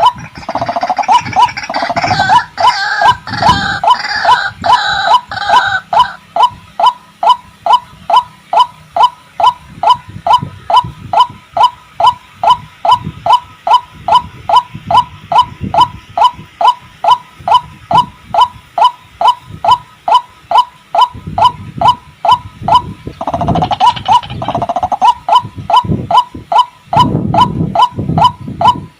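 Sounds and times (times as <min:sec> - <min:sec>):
bird hoarse repeated call: 0:00.0 - 0:18.1, 0:18.8 - 0:28.9.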